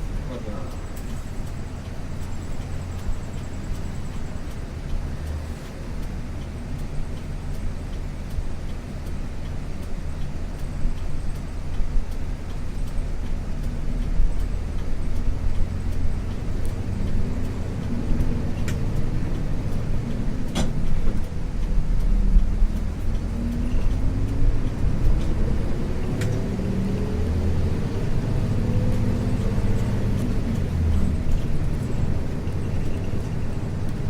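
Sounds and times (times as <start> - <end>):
bus diesel engine: 0.0 - 34.0
road noise: 0.0 - 34.0.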